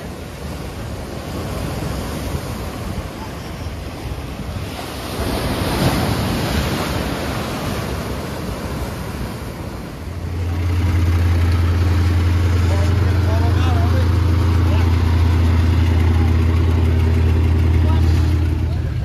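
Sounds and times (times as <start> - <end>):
waves breaking on rocks: 0.0 - 19.0.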